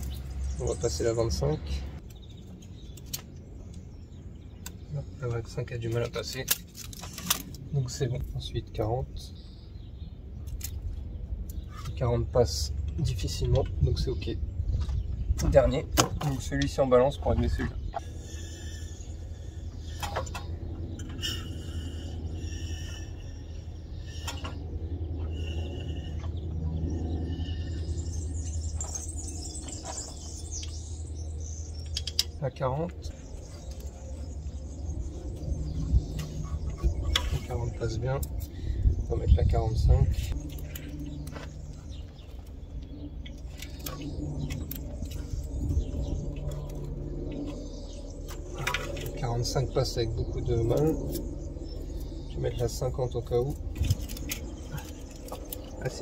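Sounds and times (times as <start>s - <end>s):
birds chirping: 0.0s - 56.0s
steady low hum: 0.0s - 56.0s.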